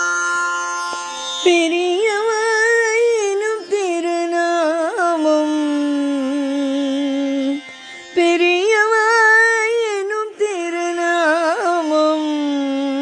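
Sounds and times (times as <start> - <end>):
person singing devotional song: 1.4 - 13.0.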